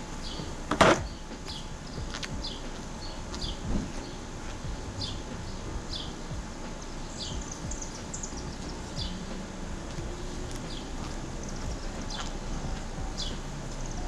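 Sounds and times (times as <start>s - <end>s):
bird chirping: 0.0s - 14.0s
low outdoor rumble: 0.0s - 14.0s.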